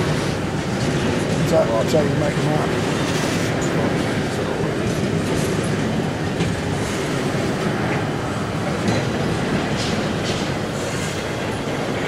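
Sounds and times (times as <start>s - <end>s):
freight train wheels rumbling: 0.0s - 12.0s
train knock: 0.0s - 12.0s.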